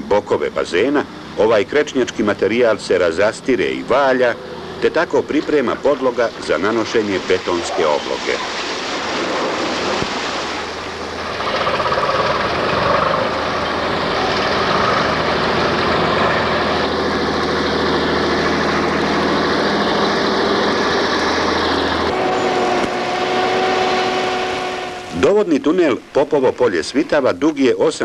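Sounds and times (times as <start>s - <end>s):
bulldozer diesel engine running: 0.0s - 28.0s
steady hum: 0.0s - 28.0s.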